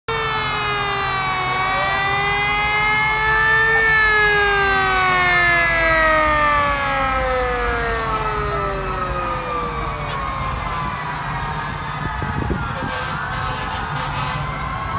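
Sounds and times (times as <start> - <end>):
fire truck siren wailing: 0.1 - 14.9.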